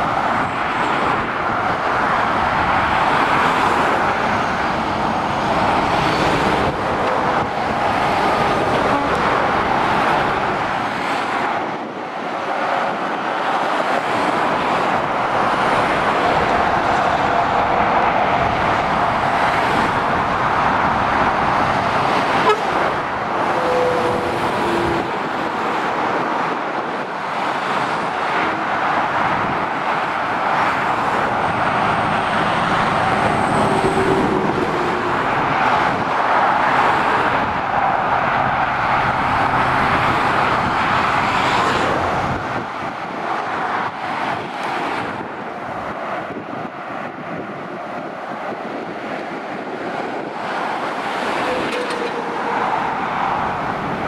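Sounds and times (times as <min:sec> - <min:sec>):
motorway traffic passing: 0:00.0 - 0:54.0.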